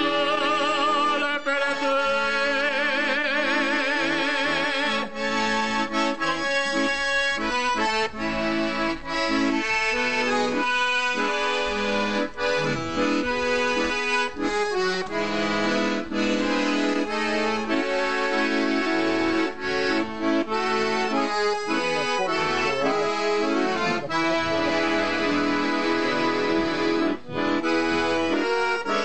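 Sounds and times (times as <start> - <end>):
accordion tune: 0.0 - 29.0.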